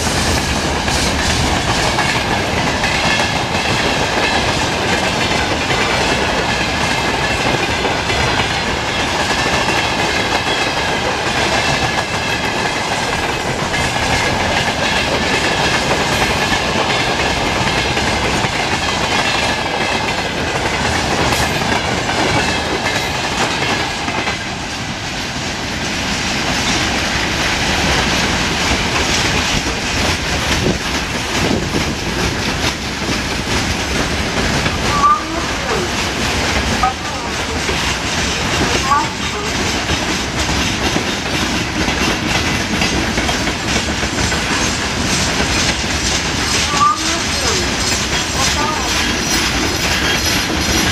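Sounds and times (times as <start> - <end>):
high ringing of wheels on rails: 0.0 - 50.9
train wheels clattering over rail joints: 0.0 - 50.9.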